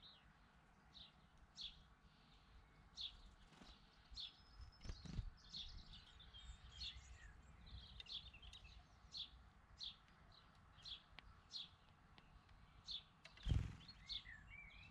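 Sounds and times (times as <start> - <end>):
sparrow chirping: 0.0 - 14.9.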